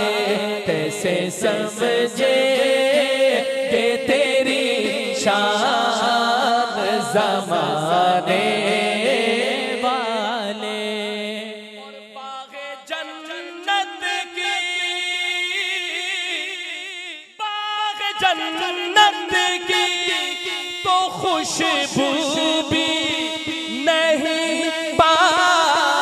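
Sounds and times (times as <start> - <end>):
man singing into microphone: 0.0 - 26.0.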